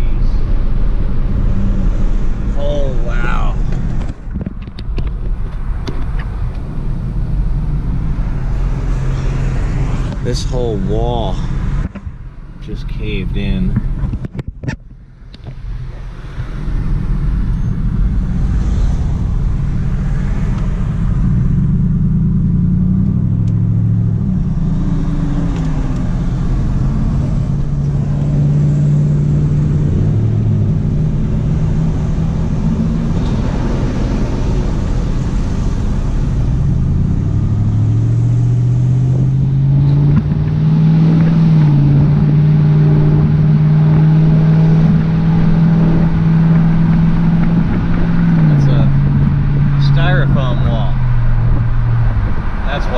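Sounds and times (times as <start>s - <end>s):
car engine accelerating: 0.0s - 52.9s
road noise inside vehicle: 0.0s - 52.9s.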